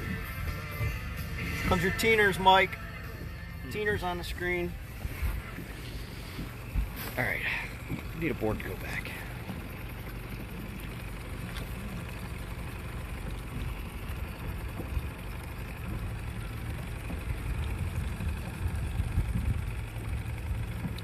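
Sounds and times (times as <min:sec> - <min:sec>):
outboard motor humming: 0:00.0 - 0:21.0
hiss of wind and water: 0:04.0 - 0:21.0.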